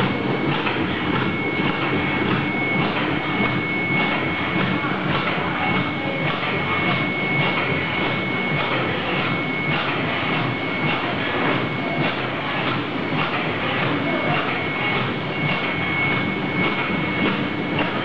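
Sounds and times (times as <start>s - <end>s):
constant high whine: 0.0s - 18.0s
machine mechanical clatter: 0.0s - 18.0s.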